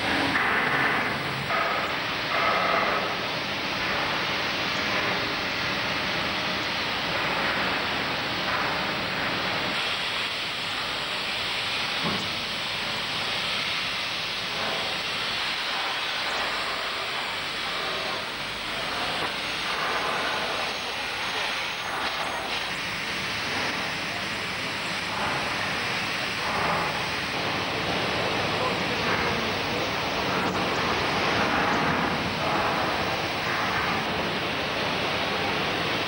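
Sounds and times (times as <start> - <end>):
steady hissing noise: 0.0 - 36.0.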